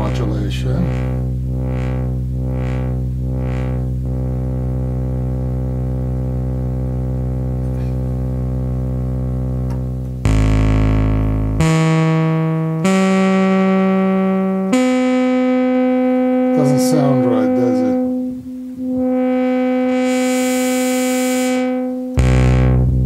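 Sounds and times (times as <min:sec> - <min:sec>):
synthesizer bass notes: 0:00.0 - 0:23.0.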